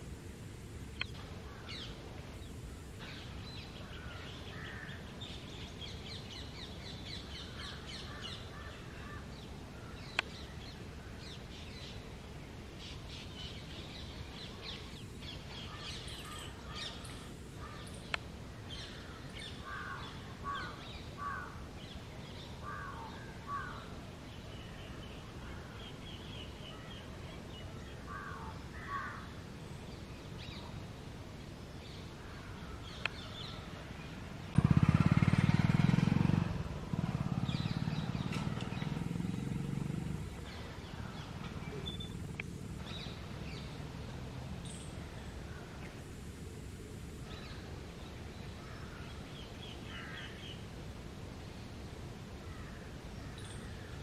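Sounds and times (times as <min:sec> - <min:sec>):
birds chirping and twittering: 0:00.9 - 0:36.1, 0:36.9 - 0:46.1, 0:46.7 - 0:54.0.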